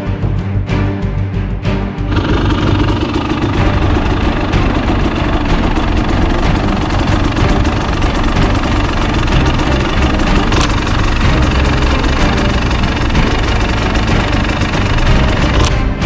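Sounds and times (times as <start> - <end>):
two-stroke engine idling: 2.1 - 15.8.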